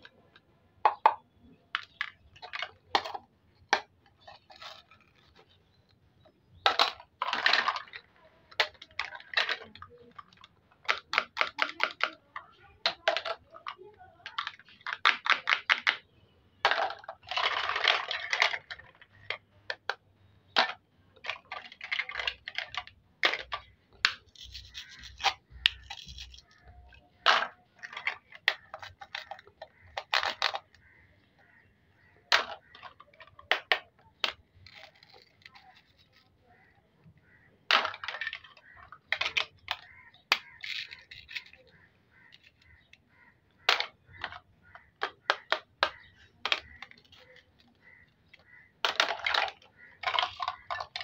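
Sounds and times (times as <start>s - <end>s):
plastic scraping: 0.0s - 51.0s
plastic toys clicking and clattering: 0.0s - 51.0s.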